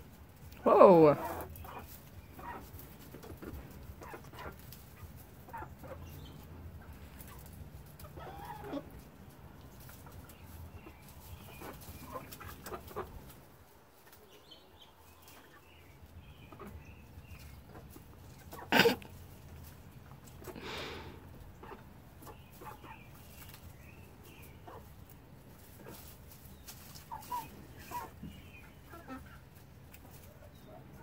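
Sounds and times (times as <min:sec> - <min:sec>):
chickens clucking: 0:00.0 - 0:31.0
chickens pecking and scratching: 0:00.0 - 0:31.0.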